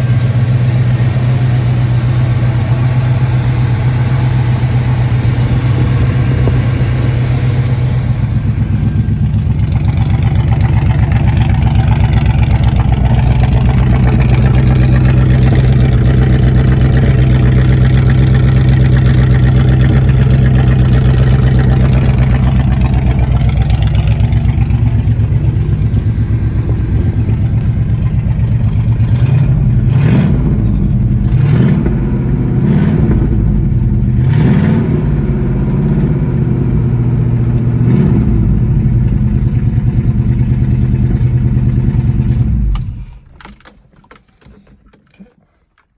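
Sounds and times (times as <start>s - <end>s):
engine throttle surges: 0.0s - 43.2s
car engine idling: 0.0s - 45.8s.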